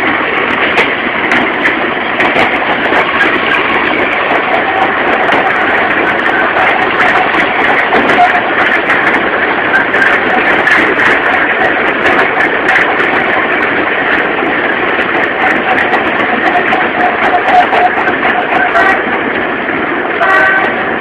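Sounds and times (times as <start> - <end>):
train cars rattling on track: 0.0 - 21.0.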